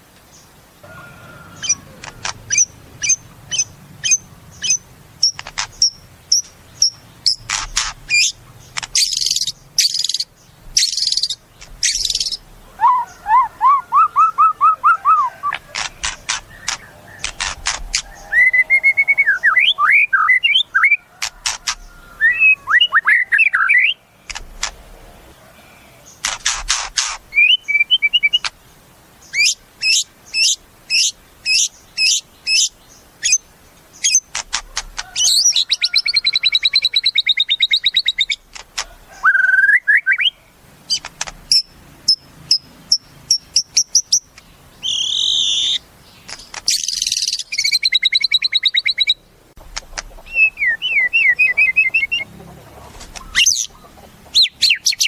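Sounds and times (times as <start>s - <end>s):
bird singing varied song: 0.0s - 55.0s.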